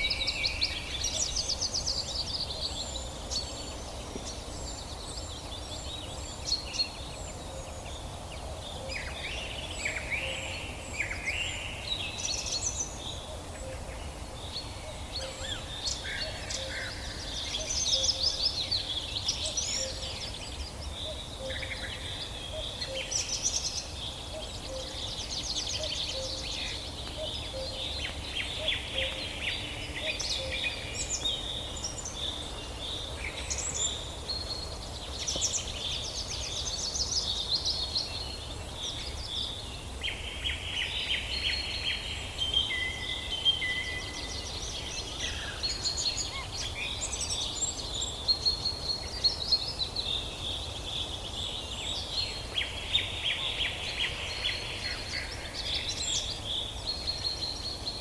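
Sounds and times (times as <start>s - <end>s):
low background noise: 0.0s - 58.0s
songbirds chirping and trilling: 0.0s - 58.0s.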